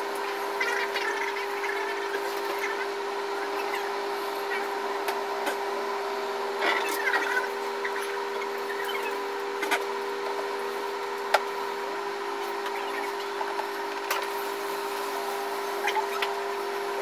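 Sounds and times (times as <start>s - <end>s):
excavator engine and hydraulics hum: 0.0s - 17.0s.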